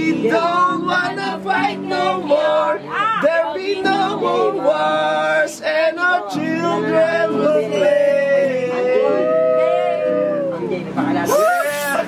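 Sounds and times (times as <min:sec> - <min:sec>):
person singing with instruments: 0:00.0 - 0:12.0.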